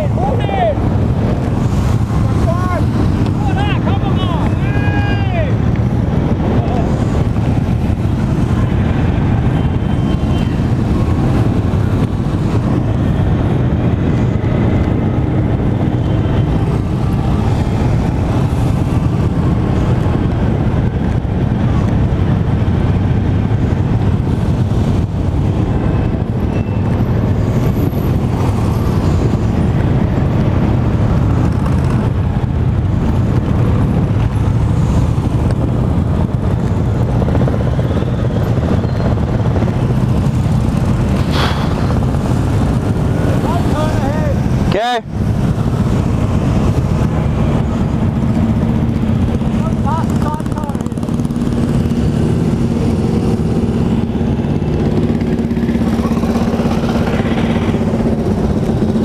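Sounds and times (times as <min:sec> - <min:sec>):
motorcycles running alongside: 0:00.0 - 0:59.0
scooter engine road and wind rumble: 0:00.0 - 0:59.0.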